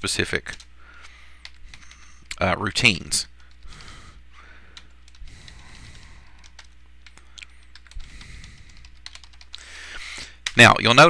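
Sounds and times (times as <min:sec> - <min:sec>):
faint low electrical hum: 0:00.0 - 0:11.0.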